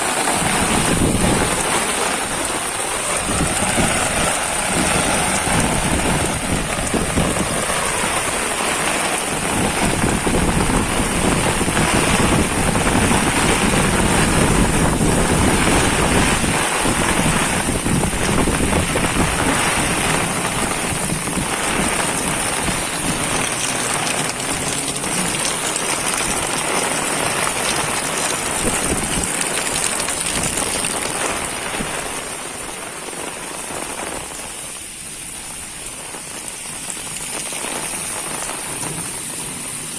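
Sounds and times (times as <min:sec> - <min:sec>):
heavy rain pouring: 0:00.0 - 0:39.9
raindrops pattering on surfaces: 0:00.0 - 0:39.9.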